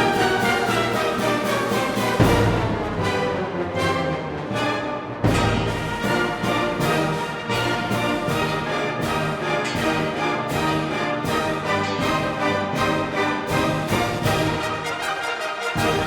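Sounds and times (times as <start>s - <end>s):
orchestral brass and strings: 0.0s - 16.0s.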